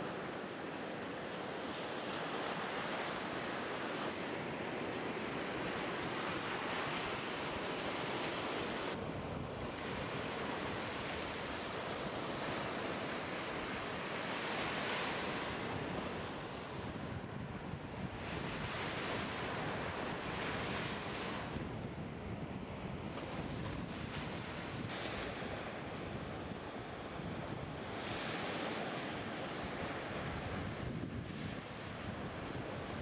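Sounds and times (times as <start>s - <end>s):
wind on microphone: 2.4s - 33.0s.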